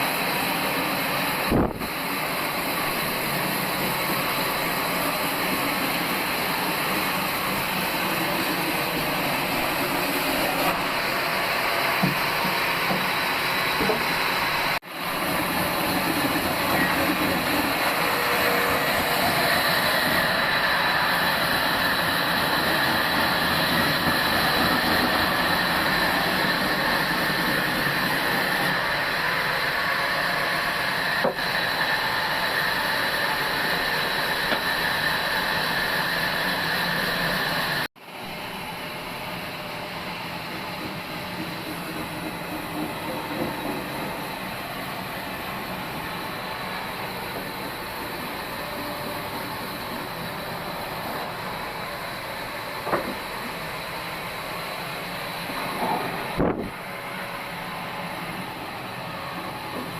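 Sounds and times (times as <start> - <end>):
band sawmill sawing: 0.0 - 59.9.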